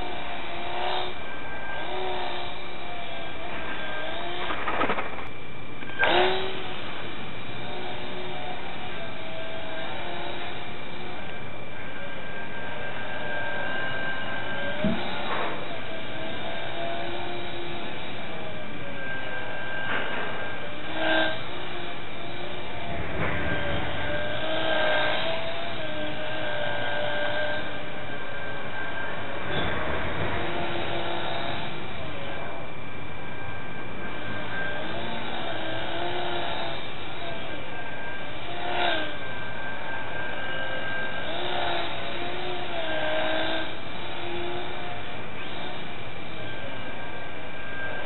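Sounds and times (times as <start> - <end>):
small electric motor whining: 0.0 - 48.0.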